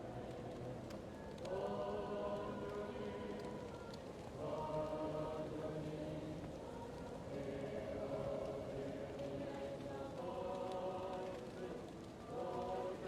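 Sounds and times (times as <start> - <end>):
fireplace crackles: 0.0 - 13.0
muffled choir singing: 0.0 - 13.0.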